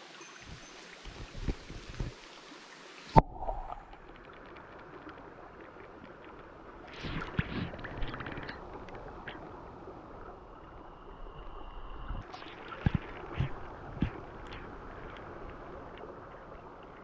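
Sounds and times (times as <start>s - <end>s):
underwater stream rush: 0.0s - 17.0s.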